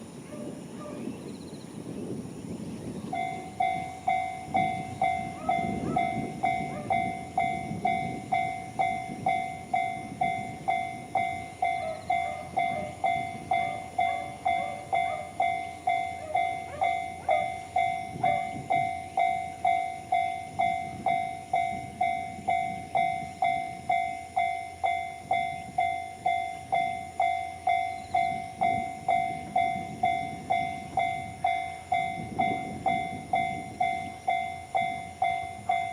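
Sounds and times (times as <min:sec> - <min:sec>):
level-crossing warning bell: 0:03.0 - 0:35.9.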